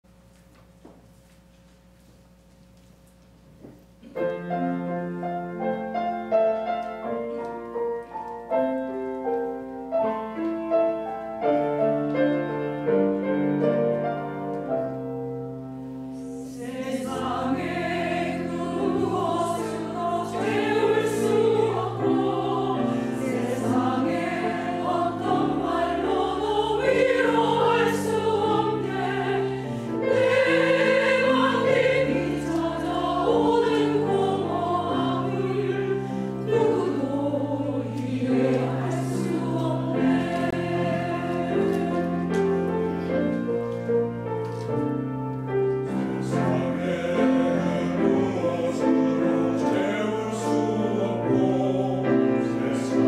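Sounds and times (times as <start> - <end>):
piano notes: 3.6 - 53.0
church choir singing a hymn: 4.0 - 53.0.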